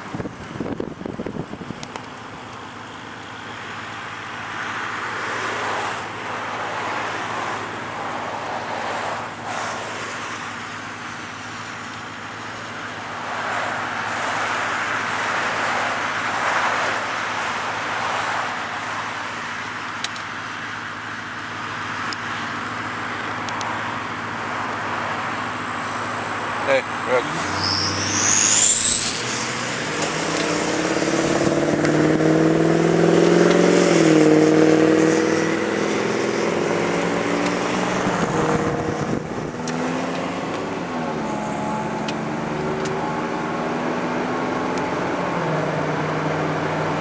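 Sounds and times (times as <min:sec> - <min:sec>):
road and wind noise: 0:00.0 - 0:47.0
vehicle engine hum: 0:00.0 - 0:47.0.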